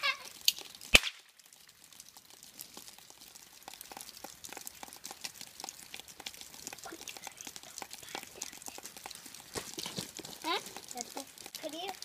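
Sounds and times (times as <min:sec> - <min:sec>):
faint small clicks and crackles: 0:00.1 - 0:12.0.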